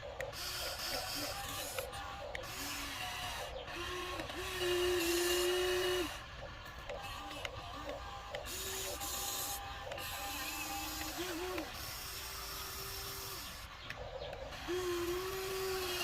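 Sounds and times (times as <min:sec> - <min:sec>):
small electric motors whining: 0:00.0 - 0:16.0.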